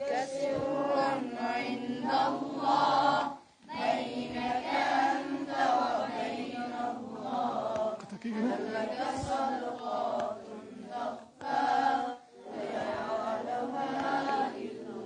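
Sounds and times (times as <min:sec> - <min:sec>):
boys singing together: 0:00.0 - 0:15.0.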